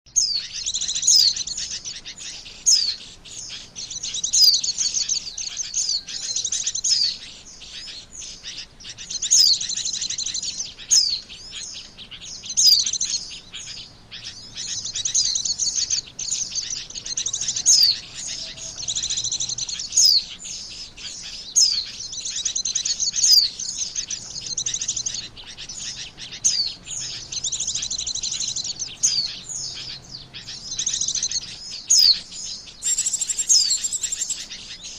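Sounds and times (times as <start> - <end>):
bird twittering: 0.1 - 34.9
sharp downslurred bird chirps: 0.1 - 34.9.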